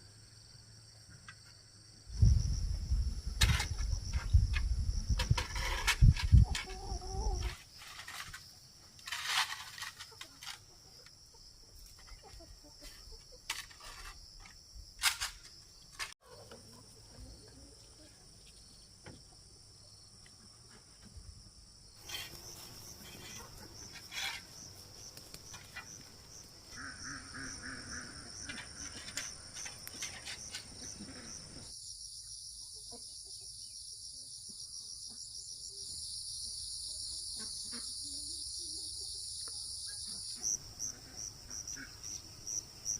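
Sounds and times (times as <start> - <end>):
insect chorus drone: 0.0 - 12.2, 13.3 - 42.9.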